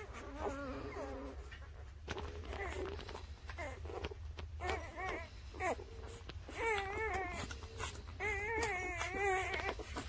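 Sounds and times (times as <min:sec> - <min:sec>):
puppies whimpering: 0:00.0 - 0:10.0.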